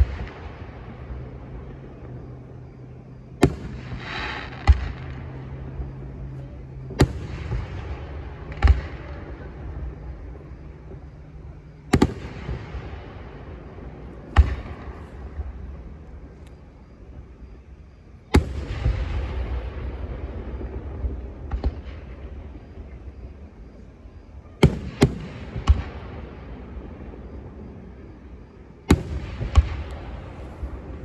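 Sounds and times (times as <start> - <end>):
fireworks bangs echoing: 0.0 - 17.4, 18.3 - 31.0
fireworks crackling: 0.0 - 31.0.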